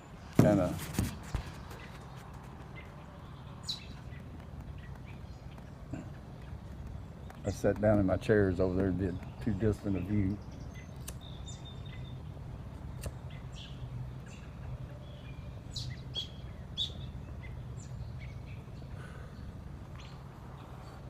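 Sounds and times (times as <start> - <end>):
low background hum: 0.0 - 21.0
songbirds chirping: 0.0 - 21.0.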